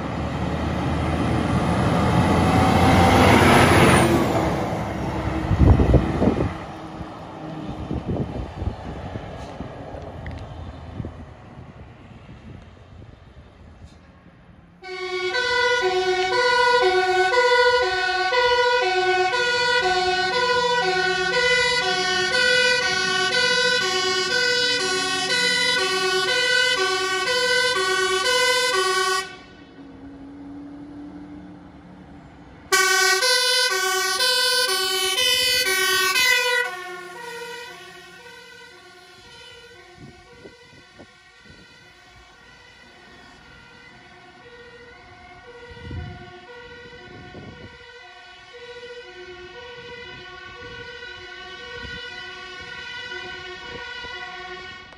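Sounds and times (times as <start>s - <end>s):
two-tone emergency sirens: 0.0s - 13.1s, 14.8s - 54.9s.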